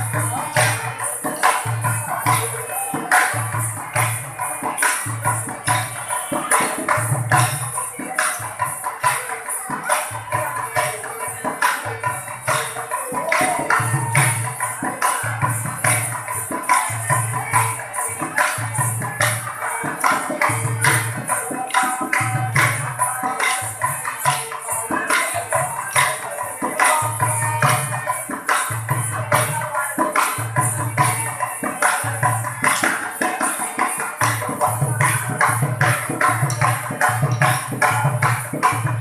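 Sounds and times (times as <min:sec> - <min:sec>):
percussion clacks and jingles: 0:00.0 - 0:39.0.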